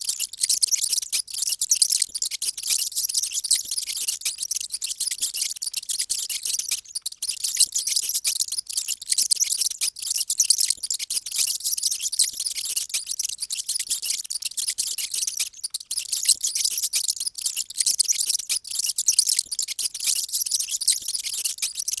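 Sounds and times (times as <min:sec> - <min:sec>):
mice squeaking: 0:00.0 - 0:22.0.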